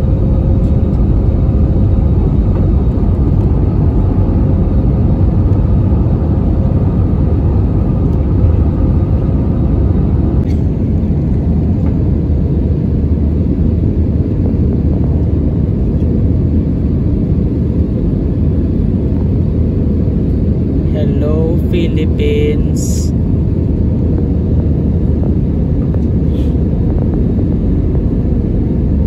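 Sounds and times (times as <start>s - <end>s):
faint steady hum: 0.0s - 29.0s
jet engines roaring: 0.0s - 29.0s.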